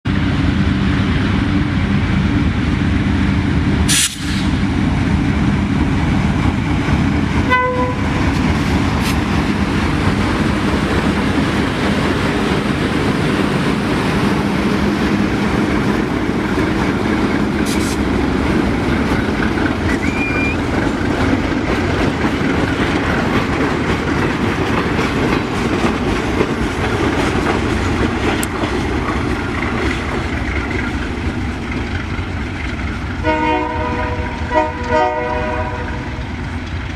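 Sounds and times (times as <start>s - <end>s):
train wheels rumbling on rails: 0.1s - 36.9s.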